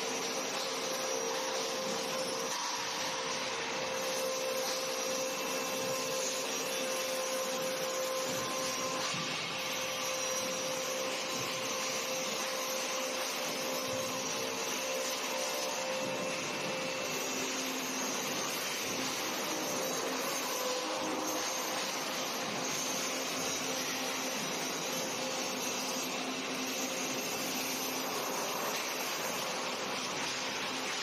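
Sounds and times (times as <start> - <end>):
angle grinder grinding metal: 0.0 - 31.0.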